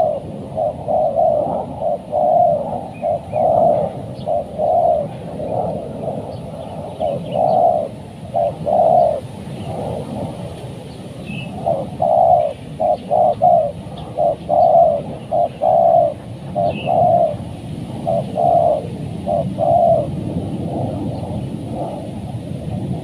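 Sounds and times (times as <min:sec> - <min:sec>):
dove cooing: 0:00.0 - 0:10.4, 0:11.2 - 0:22.2.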